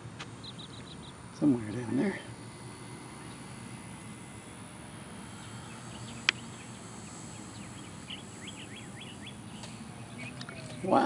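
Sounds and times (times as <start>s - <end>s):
breeze rumbling: 0.0s - 11.0s
bird chirping: 0.4s - 3.6s, 5.3s - 11.0s.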